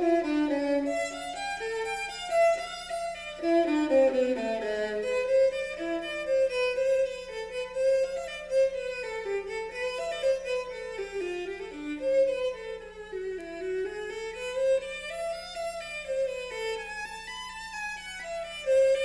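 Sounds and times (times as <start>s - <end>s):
violin melody through loudspeaker: 0.0s - 19.0s.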